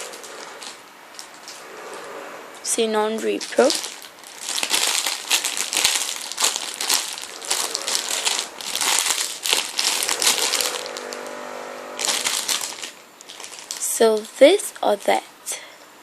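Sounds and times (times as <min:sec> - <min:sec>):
squishy toys crinkling and rustling: 0:00.0 - 0:01.7, 0:03.2 - 0:11.3, 0:12.0 - 0:15.2.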